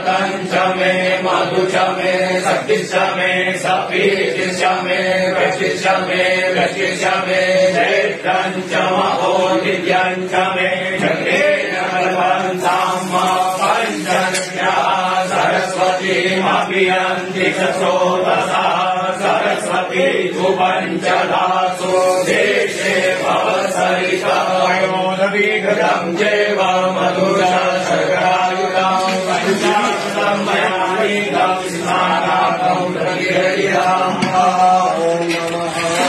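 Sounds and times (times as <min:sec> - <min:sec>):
people chanting mantras: 0:00.0 - 0:36.0.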